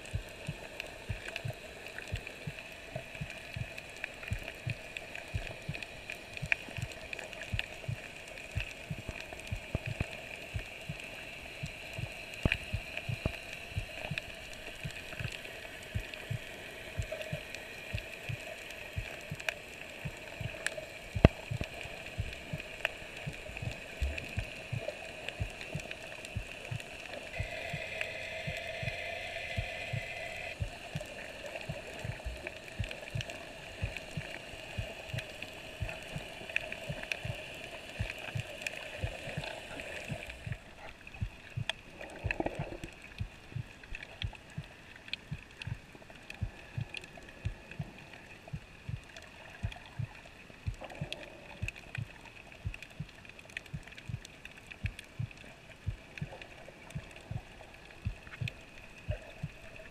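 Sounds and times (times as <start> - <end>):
steady background hum: 0.0 - 50.1
underwater clicking and crackling: 0.0 - 59.9.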